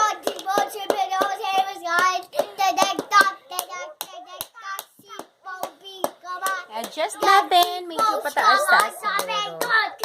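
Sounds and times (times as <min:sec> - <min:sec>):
child singing: 0:00.0 - 0:10.0.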